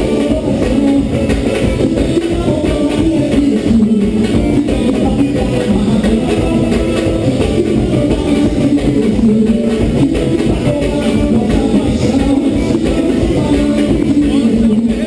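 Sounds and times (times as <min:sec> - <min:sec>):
live band playing carnival music: 0:00.0 - 0:15.0.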